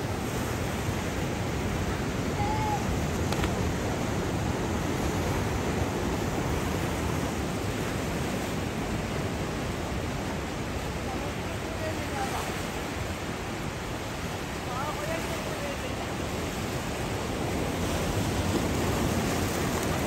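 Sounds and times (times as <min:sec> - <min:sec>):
ocean surf breaking on rocks: 0:00.0 - 0:20.0.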